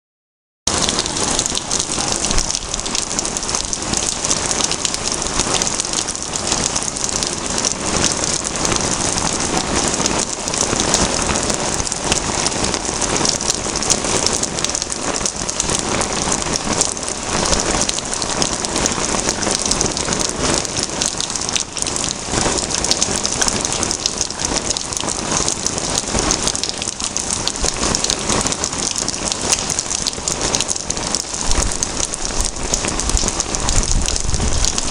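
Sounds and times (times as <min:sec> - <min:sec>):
heavy rain: 0:00.7 - 0:34.9.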